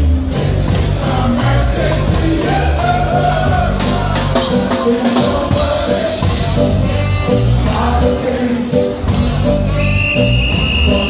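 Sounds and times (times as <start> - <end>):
live reggae band: 0.0 - 11.0.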